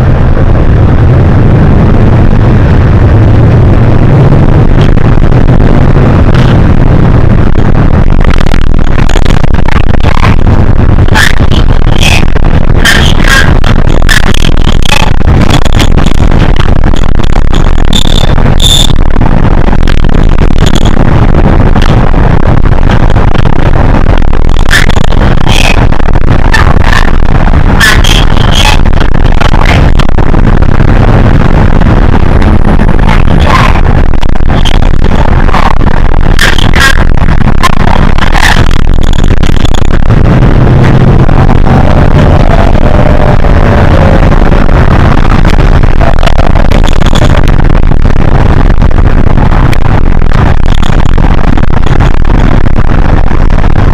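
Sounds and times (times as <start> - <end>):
bus engine and road noise: 0.0 - 53.9
faint whine: 0.0 - 53.9.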